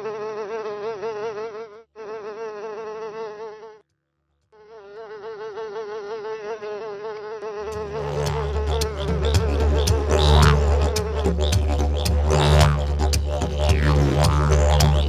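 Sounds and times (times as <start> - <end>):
blowfly buzzing: 0.0 - 3.8, 4.6 - 15.0.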